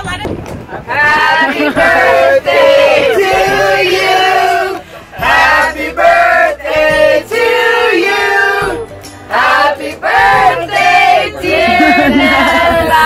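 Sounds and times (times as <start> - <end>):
group singing long notes: 0.9 - 13.0.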